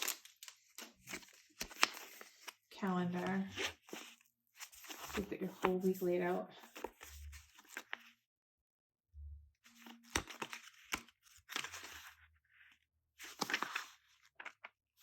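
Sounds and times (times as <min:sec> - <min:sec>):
paper and plastic rustling: 0:00.0 - 0:08.1, 0:09.7 - 0:14.8.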